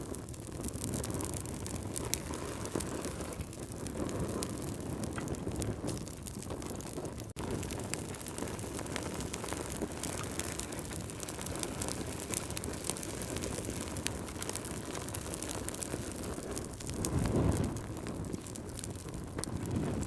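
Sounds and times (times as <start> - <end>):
low whoosh of flames: 0.0 - 20.0
wood fire crackling: 0.0 - 20.0.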